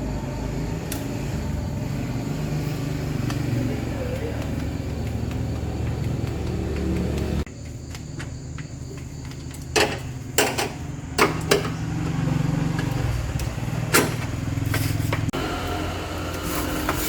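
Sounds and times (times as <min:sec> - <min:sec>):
low engine hum: 0:00.0 - 0:07.5, 0:10.1 - 0:17.0.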